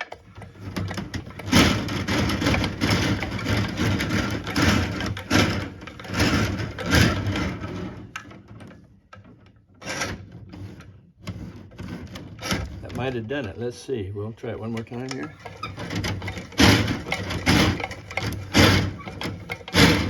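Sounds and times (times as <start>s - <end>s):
cable scraping and rattling in pipe: 0.0s - 13.8s, 14.4s - 20.0s.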